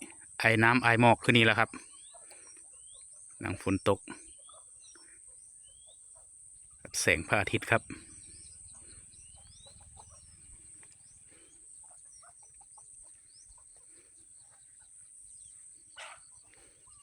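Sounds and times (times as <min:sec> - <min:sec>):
fowl clucking: 0:00.0 - 0:17.0
short bird calls: 0:00.0 - 0:17.0.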